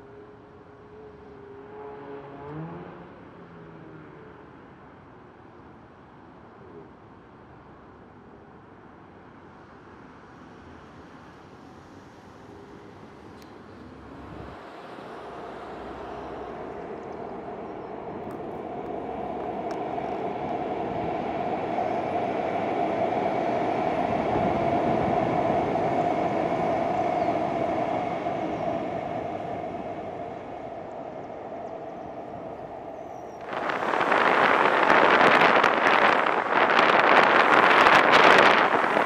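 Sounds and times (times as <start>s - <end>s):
electric metro train passing: 0.0s - 39.0s.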